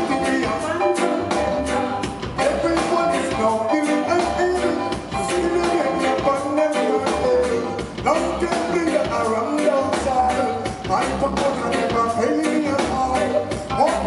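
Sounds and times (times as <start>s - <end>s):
drum kit beat: 0.0s - 14.0s
electric bass guitar: 0.0s - 14.0s
live reggae band playing: 0.0s - 14.0s.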